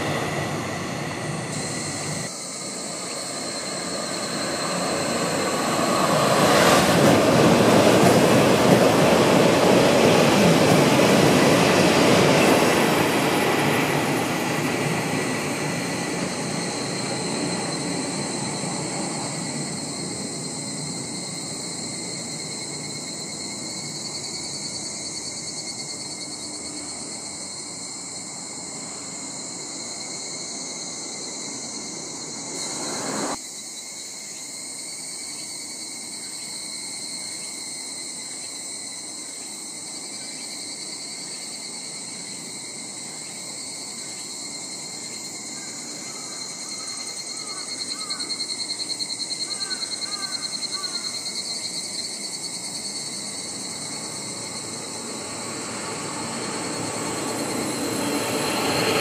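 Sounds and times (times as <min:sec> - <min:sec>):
approaching train rush: 0:00.0 - 0:59.0
insects chirping: 0:00.0 - 0:59.0.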